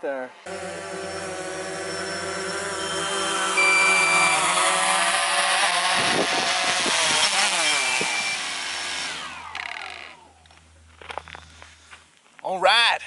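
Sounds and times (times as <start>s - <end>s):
drone motors spinning down: 0.5s - 11.6s
drone propellers whining: 0.5s - 12.0s.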